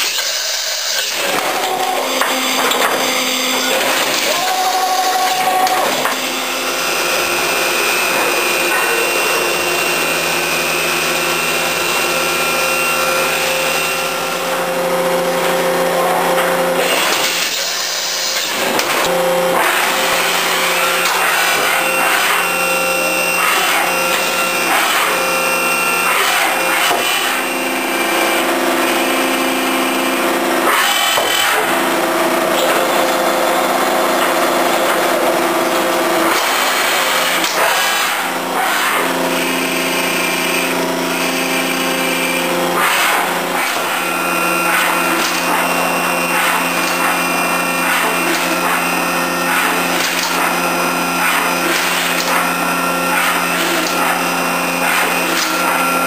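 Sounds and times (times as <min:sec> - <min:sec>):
machine spindle whine: 0:00.0 - 0:56.0
metal cutting and coolant noise: 0:00.0 - 0:56.0.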